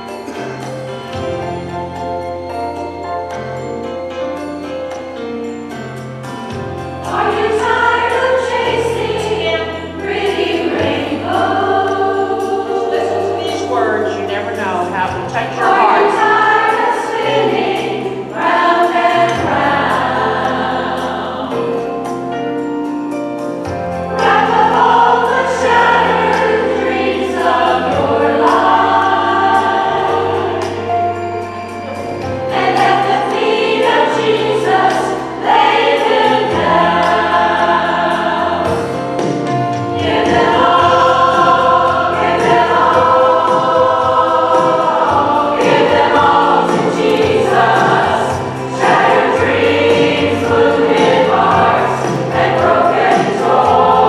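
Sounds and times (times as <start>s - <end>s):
women's choir singing gospel: 0.0s - 2.0s, 6.2s - 22.7s, 23.6s - 54.0s
low held accompaniment notes: 0.0s - 54.0s.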